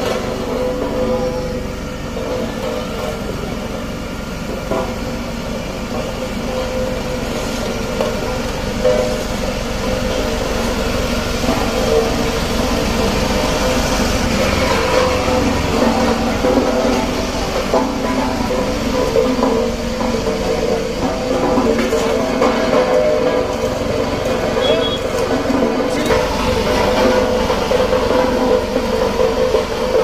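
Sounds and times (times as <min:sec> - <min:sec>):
road roller diesel engine: 0:00.0 - 0:30.0
roller driving over gravel: 0:00.0 - 0:30.0.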